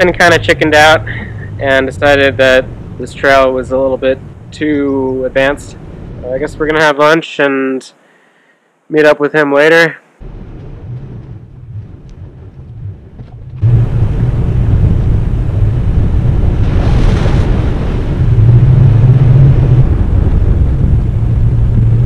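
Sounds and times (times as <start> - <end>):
truck engine drone: 0.0 - 6.8, 10.2 - 16.6, 17.6 - 22.0
rumbling road and wind noise: 0.0 - 7.8, 9.4 - 22.0.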